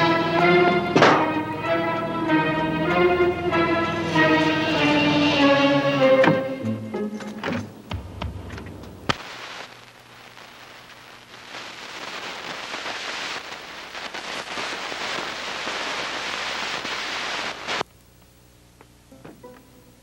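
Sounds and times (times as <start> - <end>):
steady rain hiss: 0.0 - 6.6, 7.6 - 20.0.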